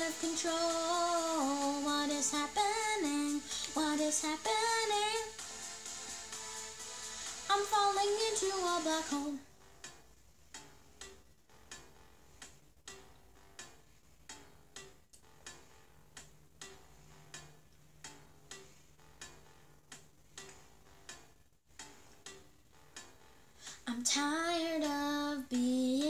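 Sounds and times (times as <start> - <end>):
metronome clicks ticking: 0.0 - 26.0.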